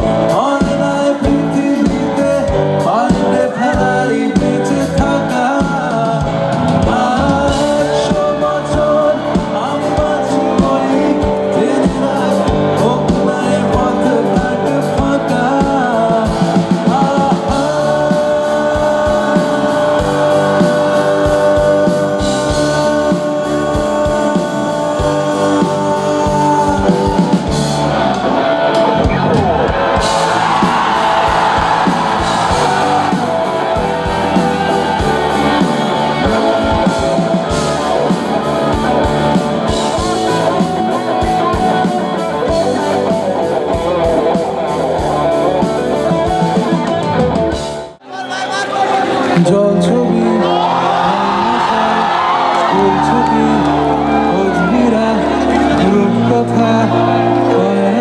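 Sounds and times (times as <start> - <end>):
rock band song with singer: 0.0 - 58.0.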